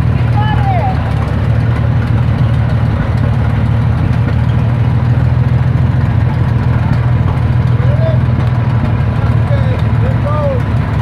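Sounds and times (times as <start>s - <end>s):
fire engine motor running: 0.0s - 11.0s.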